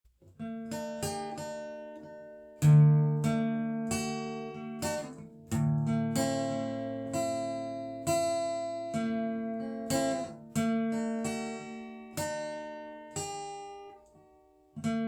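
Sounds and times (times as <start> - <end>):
acoustic guitar playing slowly: 0.2 - 15.0.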